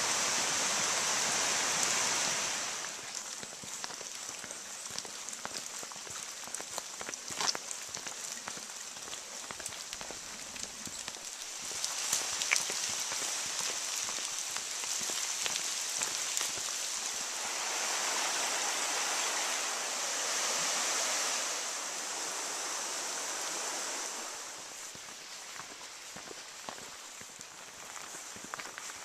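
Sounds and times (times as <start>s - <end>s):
running water rushing: 0.0s - 26.6s.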